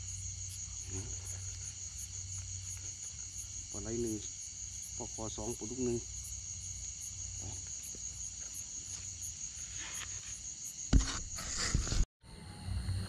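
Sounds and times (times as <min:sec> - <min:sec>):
crickets trilling: 0:00.0 - 0:11.4.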